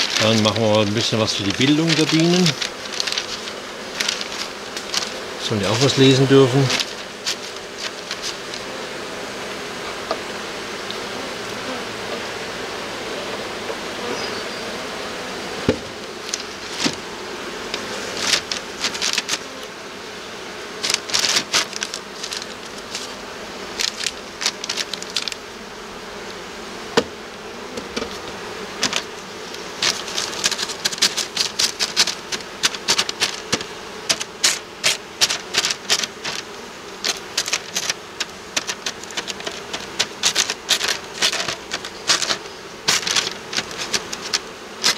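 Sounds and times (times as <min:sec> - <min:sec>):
clicks and taps of hive handling: 0:00.0 - 0:09.0, 0:09.7 - 0:12.3, 0:13.2 - 0:13.9, 0:15.6 - 0:19.8, 0:20.6 - 0:25.6, 0:26.2 - 0:44.9
honeybees humming: 0:00.0 - 0:44.9.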